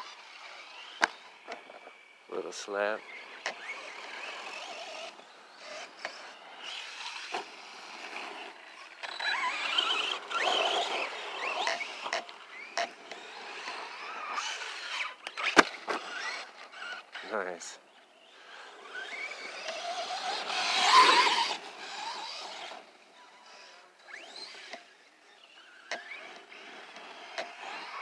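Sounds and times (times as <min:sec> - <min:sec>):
electric motor whining: 0:00.0 - 0:17.4, 0:18.2 - 0:28.0
tyres on loose ground: 0:00.0 - 0:28.0.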